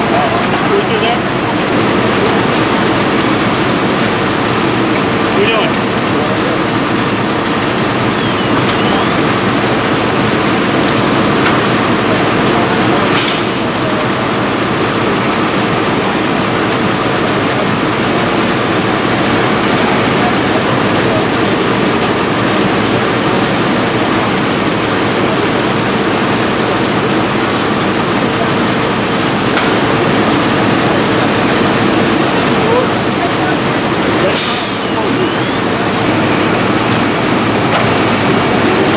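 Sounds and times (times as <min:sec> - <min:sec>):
fire engine pumps droning: 0:00.0 - 0:38.9.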